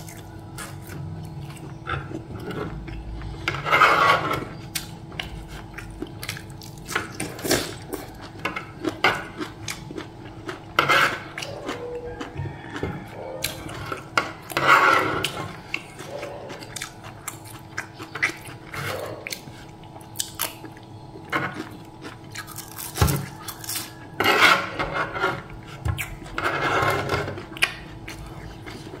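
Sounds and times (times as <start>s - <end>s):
person chewing: 0.0s - 3.5s, 4.5s - 29.0s.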